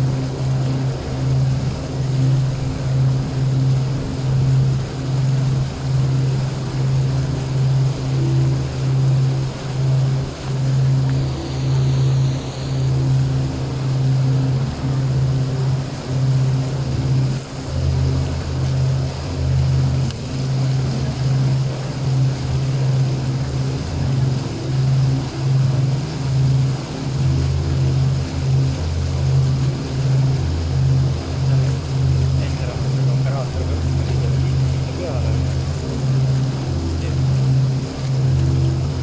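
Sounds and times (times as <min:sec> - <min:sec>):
boat engine humming: 0:00.0 - 0:39.0
water: 0:00.0 - 0:39.0
wind: 0:00.0 - 0:39.0.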